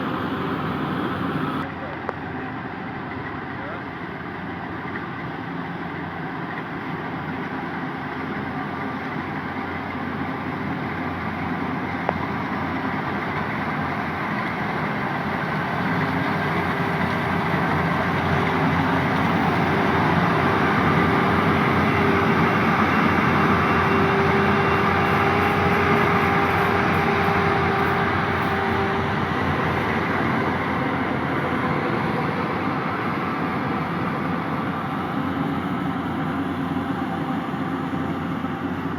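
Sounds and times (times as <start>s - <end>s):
steady machine whine: 0.0s - 1.7s, 4.4s - 38.9s
combine harvester engine running: 0.0s - 38.9s.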